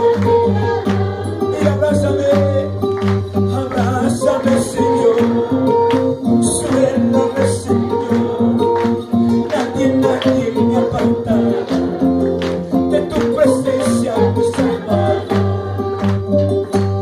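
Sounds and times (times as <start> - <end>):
man singing: 0.0 - 16.3
percussion beat: 0.0 - 17.0.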